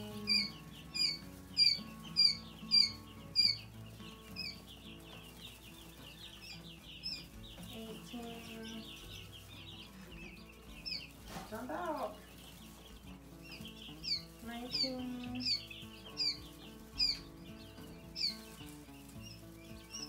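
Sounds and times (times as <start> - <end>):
quail chicks peeping: 0.0 - 20.0.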